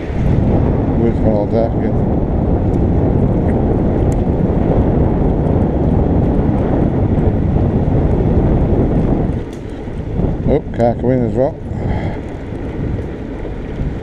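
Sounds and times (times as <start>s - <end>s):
low road rumble: 0.0s - 14.0s
wind rushing over microphone: 0.0s - 14.0s.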